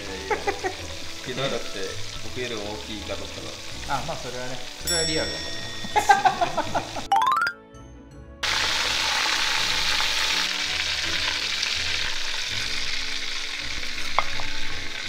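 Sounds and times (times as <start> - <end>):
hot oil sizzling: 0.0 - 7.1, 8.4 - 15.0.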